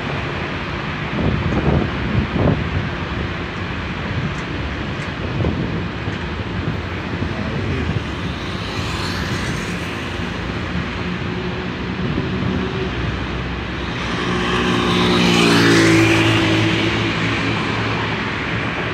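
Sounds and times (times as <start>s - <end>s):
car engines rumbling: 0.0s - 18.9s.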